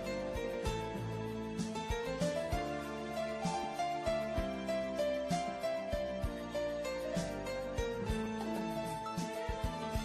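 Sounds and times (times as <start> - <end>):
simple melody over light beat: 0.0 - 10.0.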